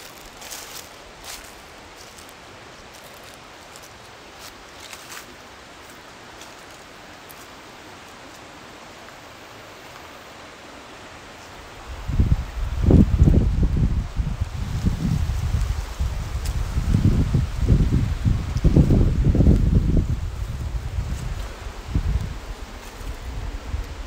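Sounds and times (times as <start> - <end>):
leaves rustling: 0.0 - 24.0
outdoor hiss: 0.0 - 24.0.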